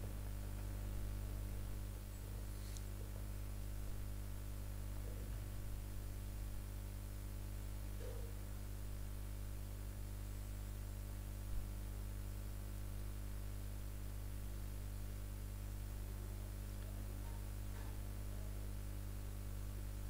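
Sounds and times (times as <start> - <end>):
low electrical hum with hiss: 0.0 - 20.0.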